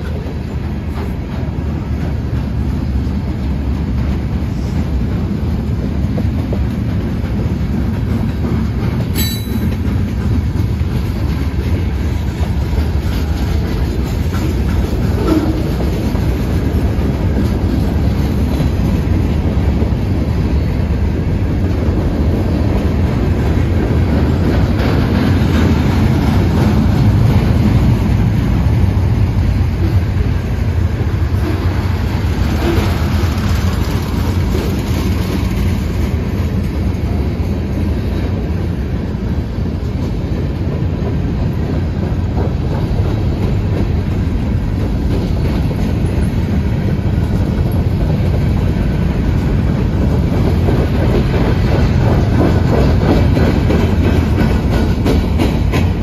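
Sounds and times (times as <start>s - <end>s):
train cars knocking: 0.0s - 56.0s
train wheels on rail: 0.0s - 56.0s.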